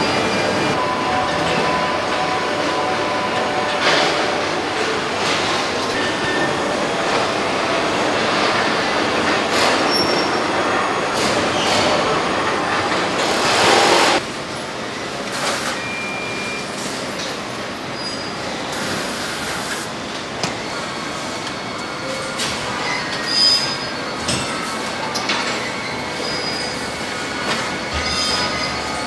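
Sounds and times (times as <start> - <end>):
machinery and conveyor din: 0.0 - 29.0.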